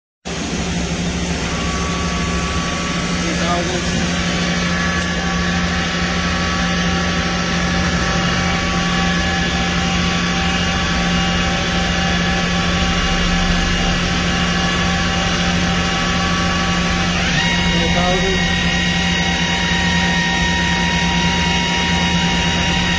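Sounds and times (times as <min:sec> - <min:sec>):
machine humming and whining: 0:00.3 - 0:22.9.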